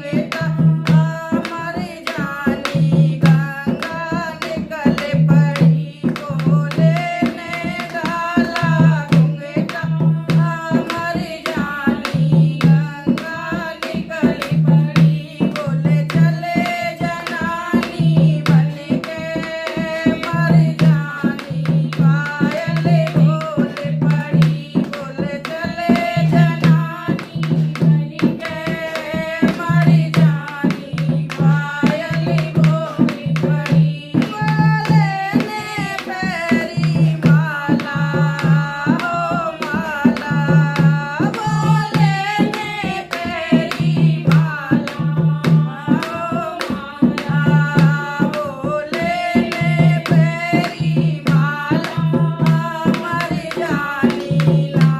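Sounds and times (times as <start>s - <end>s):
steady drum beat: 0.0s - 54.9s.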